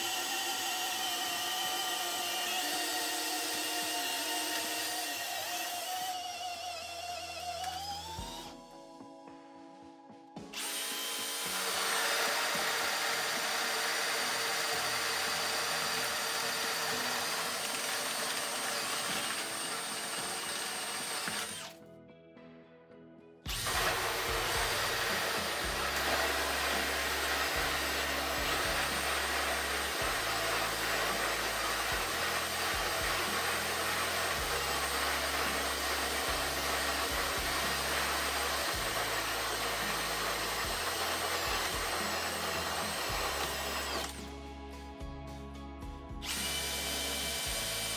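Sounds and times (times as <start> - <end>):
cordless drill motor whine: 0.0 - 8.7, 10.4 - 21.8, 23.5 - 44.3, 46.2 - 47.9.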